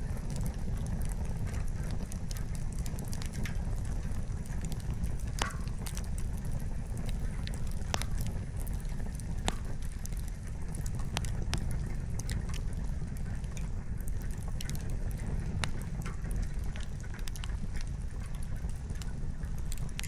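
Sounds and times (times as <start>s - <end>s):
firewood popping and snapping: 0.0s - 20.0s
low fire rumble: 0.0s - 20.0s.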